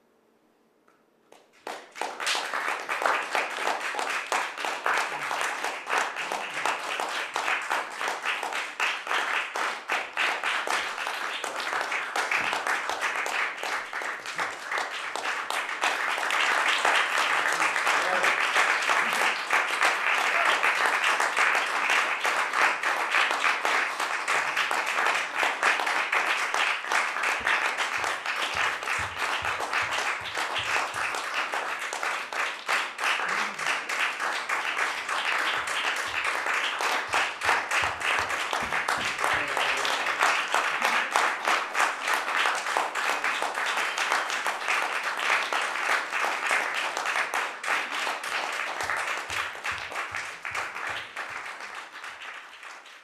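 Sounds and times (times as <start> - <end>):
audience applauding: 1.3 - 53.0.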